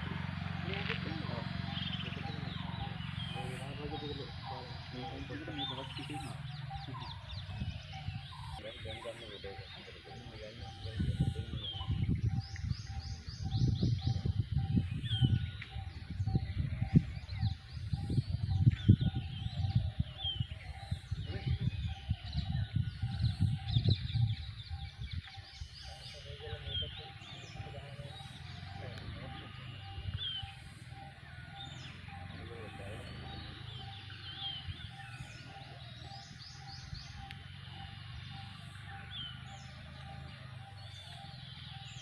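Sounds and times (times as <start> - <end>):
wind buffeting microphone: 0.0 - 37.8
birds chirping and trilling: 0.0 - 42.0.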